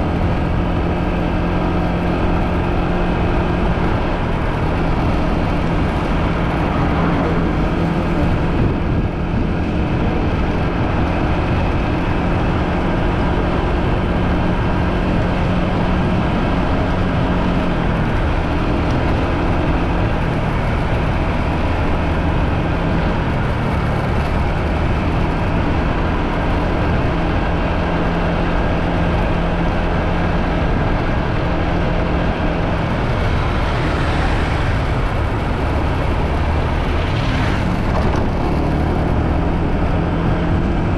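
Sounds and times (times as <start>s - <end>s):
motorbike engine running: 0.0s - 40.9s
wind rushing over microphone: 0.0s - 40.9s.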